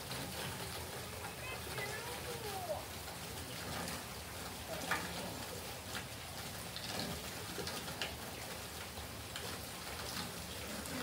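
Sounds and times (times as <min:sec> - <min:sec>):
light rain hissing: 0:00.0 - 0:11.0
water drips and taps: 0:00.0 - 0:11.0.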